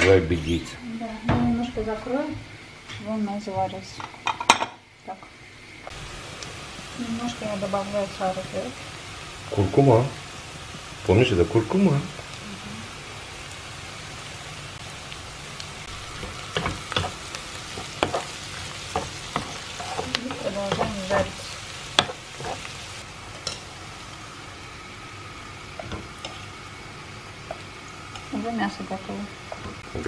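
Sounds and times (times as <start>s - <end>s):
onions sizzling in a pan: 0.0s - 30.0s.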